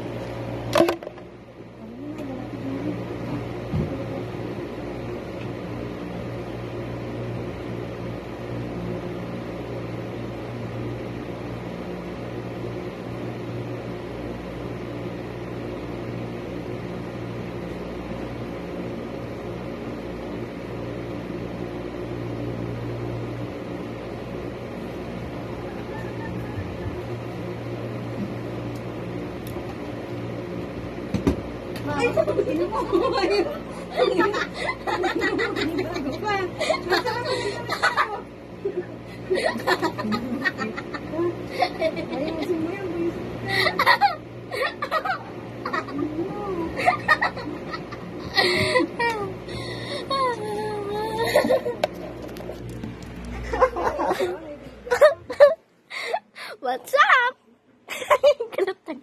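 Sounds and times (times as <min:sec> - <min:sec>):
electric fan humming: 0:00.0 - 0:59.0.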